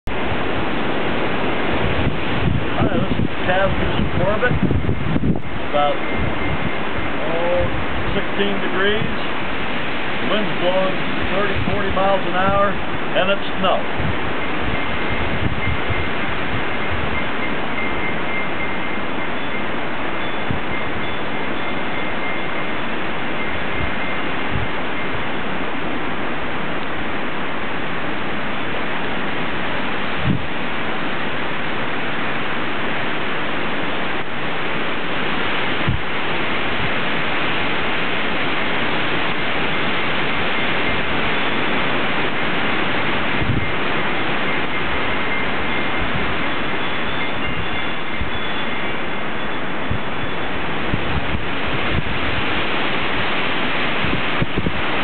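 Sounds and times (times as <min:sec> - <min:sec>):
blizzard wind on microphone: 0:00.1 - 0:55.0
dull thumps of wind buffeting: 0:00.1 - 0:55.0.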